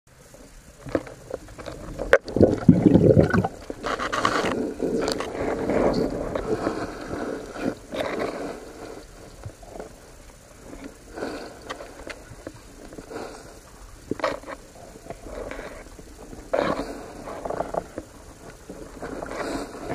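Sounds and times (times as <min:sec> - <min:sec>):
muffled underwater water sounds: 0:00.1 - 0:19.9.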